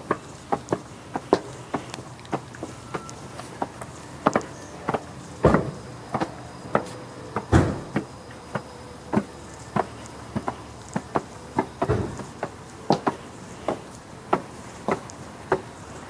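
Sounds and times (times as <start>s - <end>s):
heeled shoes clicking on stone stairs: 0.0s - 16.0s
heavy footstep thud: 0.6s - 15.6s.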